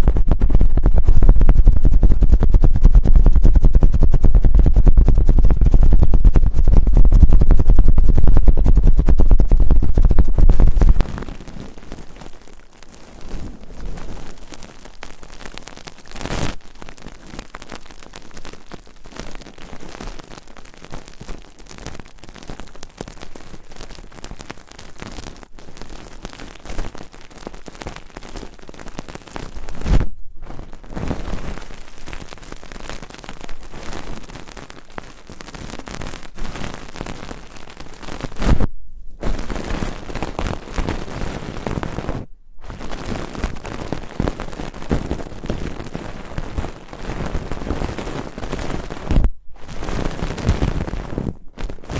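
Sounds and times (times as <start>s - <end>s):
crackling rustle: 0.0s - 51.9s.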